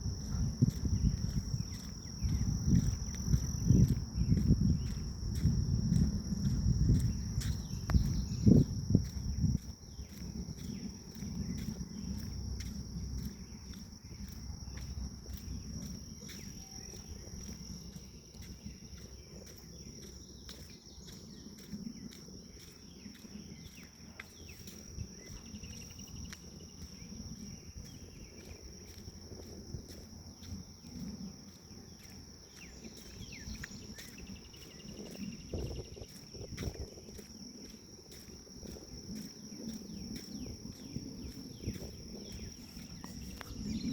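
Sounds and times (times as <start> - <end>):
footsteps on a forest path: 0.0 - 43.9
insects droning: 0.0 - 43.9.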